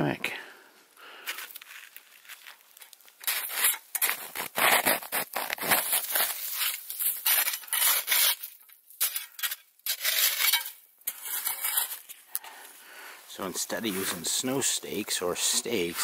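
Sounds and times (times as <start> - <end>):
packed snow crunching and scraping: 1.2 - 8.4, 9.9 - 16.0.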